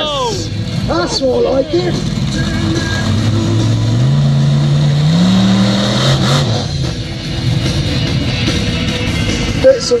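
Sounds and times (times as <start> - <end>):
truck engine revving: 0.0 - 9.6.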